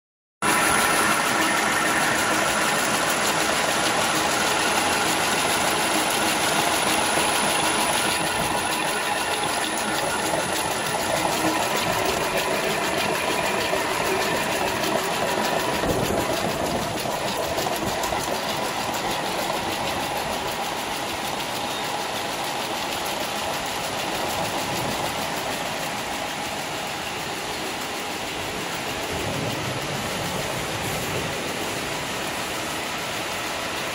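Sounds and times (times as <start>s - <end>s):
braiding machine rattling: 0.4s - 33.9s.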